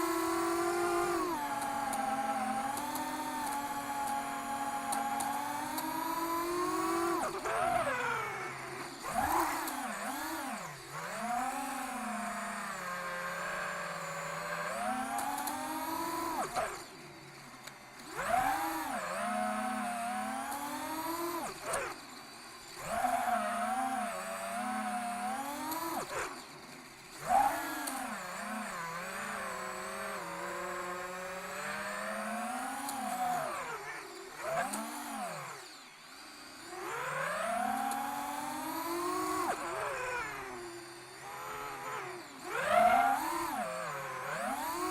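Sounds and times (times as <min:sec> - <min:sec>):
drone motor whining: 0:00.0 - 0:44.9.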